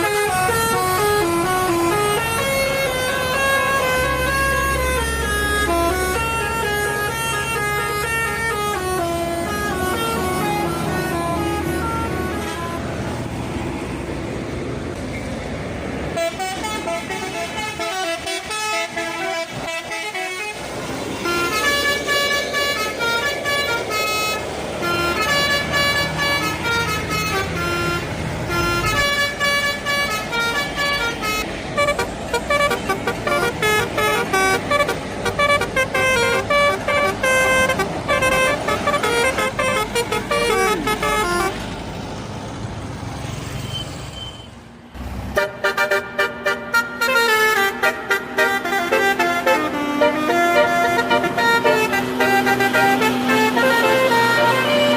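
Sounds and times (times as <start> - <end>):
multi-tone bus horns playing tunes: 0.0 - 13.8, 16.0 - 41.8, 45.2 - 54.9.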